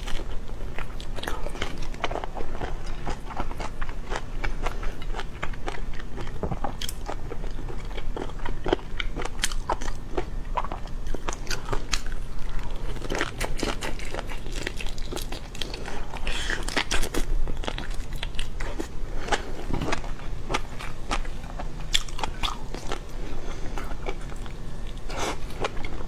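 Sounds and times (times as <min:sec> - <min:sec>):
crunchy bites and chewing: 0:00.0 - 0:23.1
low steady hum: 0:00.0 - 0:26.0.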